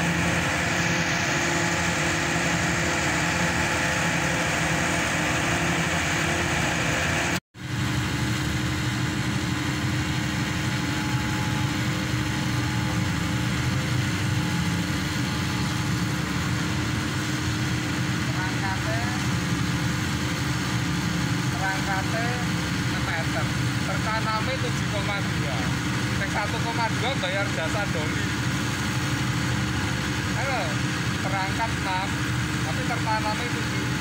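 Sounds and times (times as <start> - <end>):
pile driver engine droning: 0.0 - 34.0.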